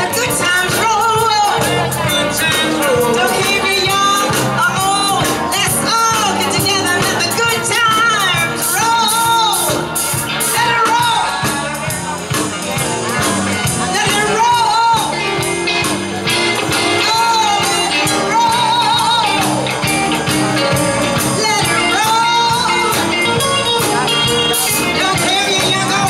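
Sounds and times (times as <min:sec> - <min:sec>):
woman singing: 0:00.0 - 0:11.6, 0:13.9 - 0:15.5, 0:16.9 - 0:19.8, 0:21.2 - 0:26.0
drum kit: 0:00.0 - 0:26.0
electric guitars: 0:00.0 - 0:26.0.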